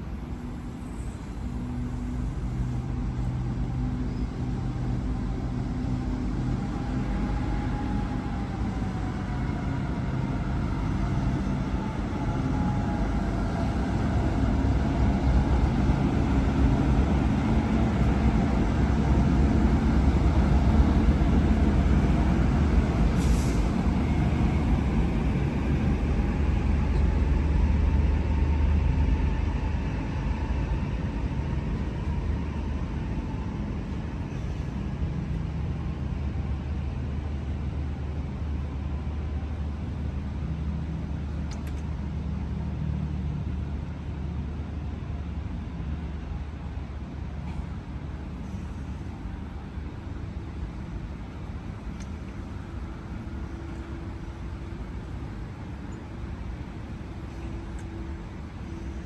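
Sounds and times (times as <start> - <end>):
train engine drone: 0.0 - 59.0.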